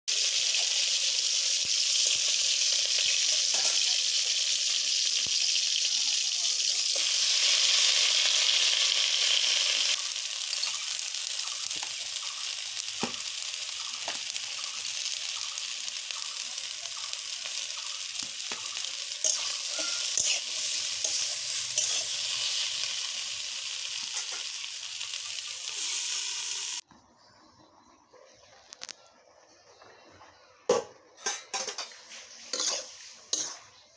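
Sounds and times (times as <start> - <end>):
food sizzling in a pan: 0.1 - 26.8, 31.2 - 33.9.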